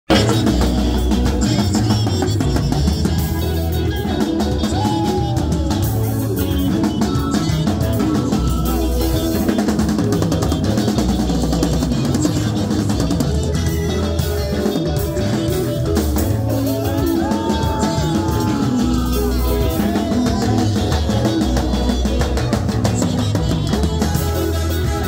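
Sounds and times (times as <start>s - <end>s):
electric guitar: 0.0s - 25.0s
bass notes: 0.1s - 25.0s
drum kit beat: 0.1s - 25.0s.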